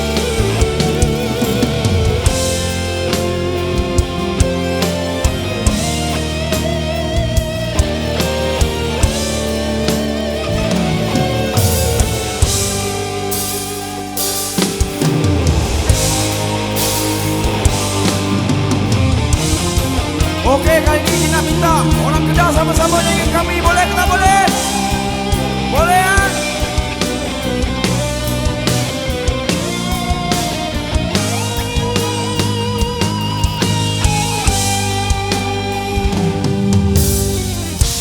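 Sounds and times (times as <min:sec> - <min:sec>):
bass guitar: 0:00.0 - 0:38.0
cymbals crashing: 0:00.0 - 0:38.0
drum kit: 0:00.0 - 0:38.0
electric guitar: 0:00.0 - 0:38.0.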